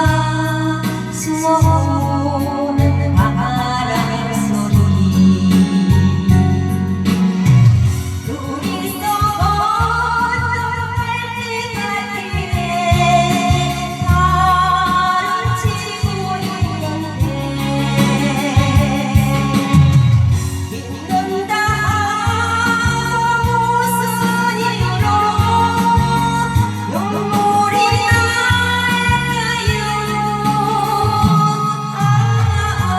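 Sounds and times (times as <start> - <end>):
bass backing track: 0.0 - 32.9
woman singing a ballad: 0.0 - 32.9.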